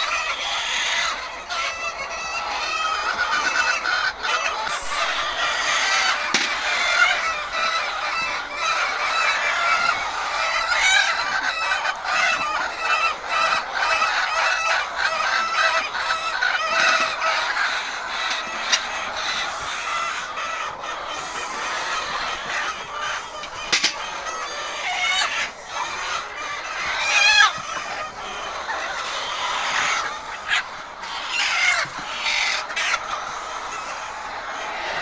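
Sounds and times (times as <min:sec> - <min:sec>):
chickens clucking and squawking: 0:00.0 - 0:35.0.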